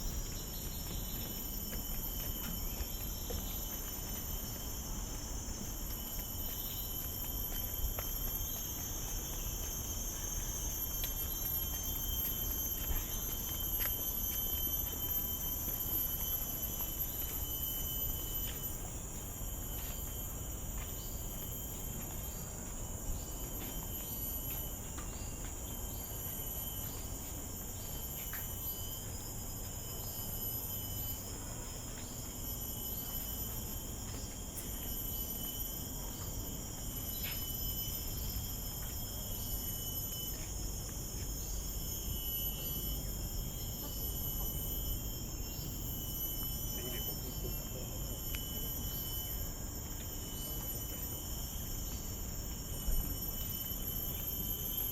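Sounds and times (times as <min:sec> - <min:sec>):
insects buzzing high-pitched: 0:00.0 - 0:54.9.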